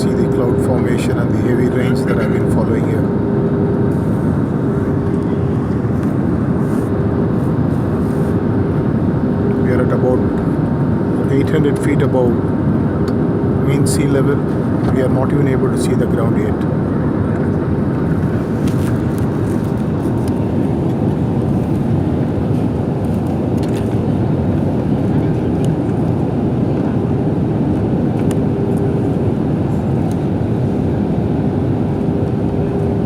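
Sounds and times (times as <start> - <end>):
airliner cabin engine noise: 0.0 - 33.0.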